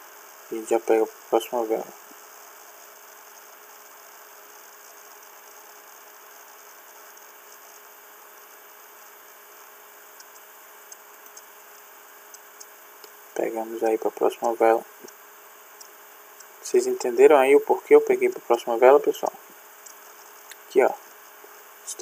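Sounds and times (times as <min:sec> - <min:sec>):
faint electrical hum: 0:00.0 - 0:22.0
microphone hiss: 0:00.0 - 0:22.0.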